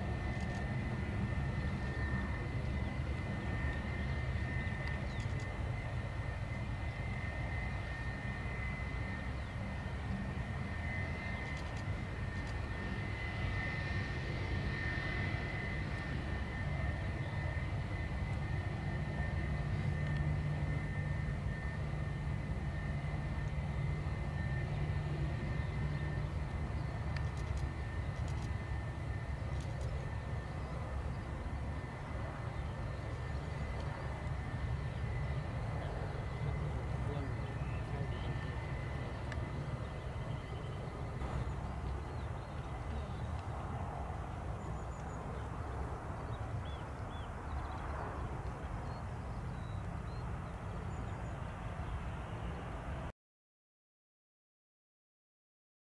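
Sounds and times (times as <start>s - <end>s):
jet engines rumbling and whining: 0.0s - 53.1s.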